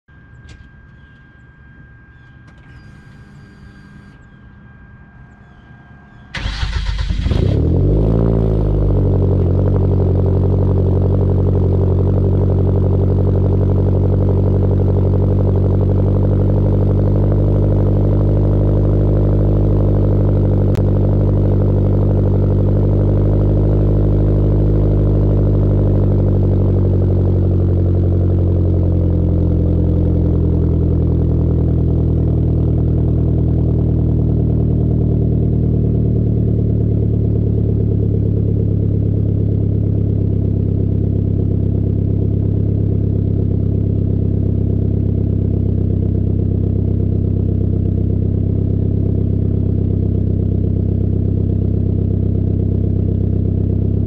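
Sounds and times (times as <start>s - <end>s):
car engine idling: 0.1s - 54.0s
car engine cranking and starting: 2.1s - 4.4s, 6.1s - 54.0s.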